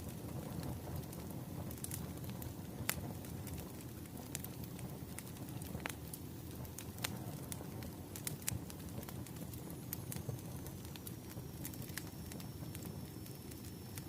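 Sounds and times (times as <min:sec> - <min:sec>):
firewood crackling and popping: 0:00.0 - 0:14.0
low rush of flames: 0:00.0 - 0:14.0.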